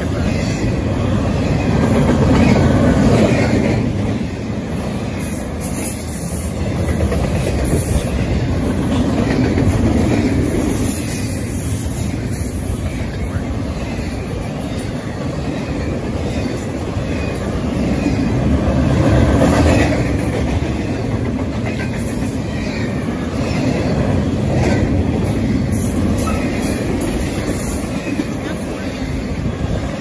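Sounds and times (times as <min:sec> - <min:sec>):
freight train rolling past: 0:00.0 - 0:30.0
wheels clacking over rail joints: 0:00.0 - 0:30.0.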